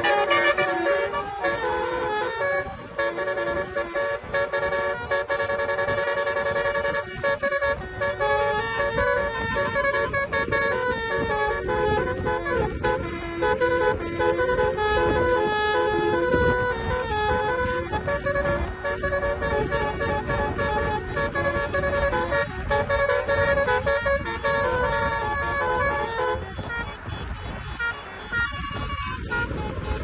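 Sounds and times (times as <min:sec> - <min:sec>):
low vehicle rumble: 0:00.0 - 0:30.0
multi-tone car horn tune: 0:00.0 - 0:30.0.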